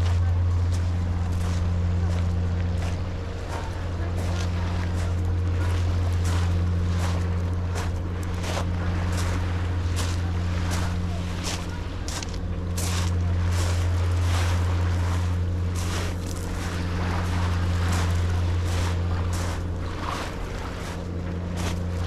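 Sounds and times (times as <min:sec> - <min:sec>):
low motor hum: 0:00.0 - 0:22.0
small waves splashing at shore: 0:00.0 - 0:22.0.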